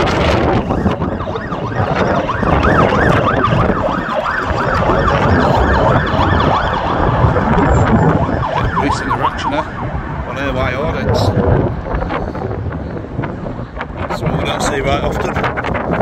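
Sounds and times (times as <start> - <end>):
emergency vehicle siren yelping: 0.0 - 14.0
street traffic: 0.0 - 16.0.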